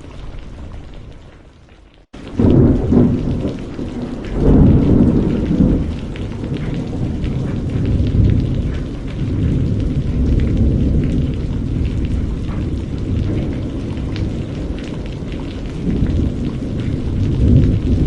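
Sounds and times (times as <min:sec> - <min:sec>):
heavy rain: 0:00.0 - 0:18.0
thunder rumbling: 0:02.2 - 0:18.0.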